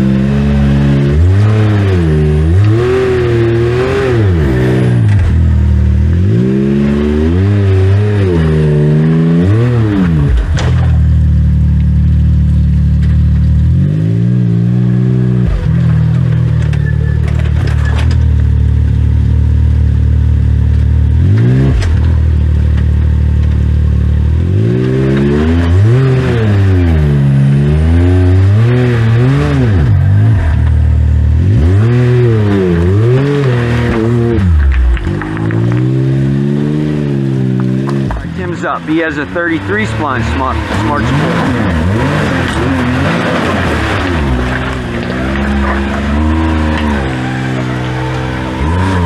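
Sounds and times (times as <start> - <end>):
utility vehicle engine revving: 0.0 - 49.0.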